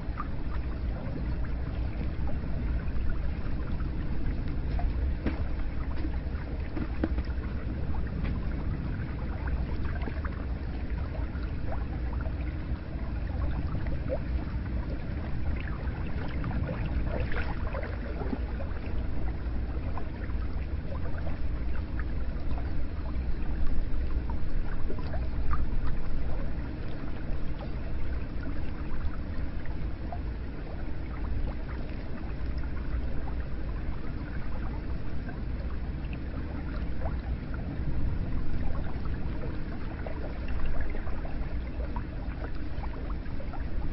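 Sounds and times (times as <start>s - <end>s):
water drips and splashes: 0.0s - 43.9s.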